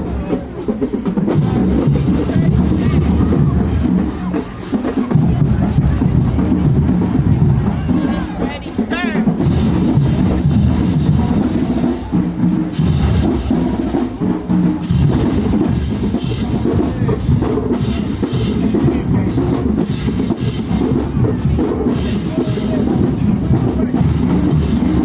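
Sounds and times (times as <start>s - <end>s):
snare and bass drums beating: 0.0s - 25.0s.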